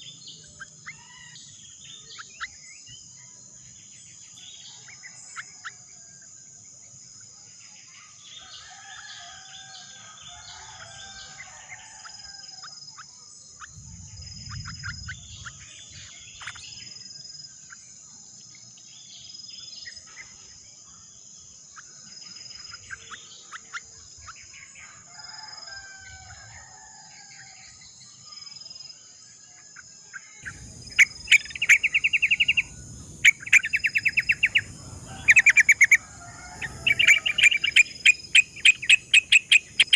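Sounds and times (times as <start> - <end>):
birds chirping and calling: 0.0 - 5.9, 7.8 - 20.6, 21.2 - 28.8, 29.5 - 39.9
cricket trill: 0.0 - 39.9.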